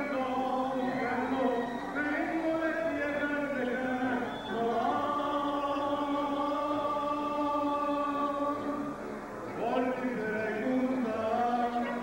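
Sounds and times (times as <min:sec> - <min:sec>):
person singing mariachi: 0:00.0 - 0:12.0.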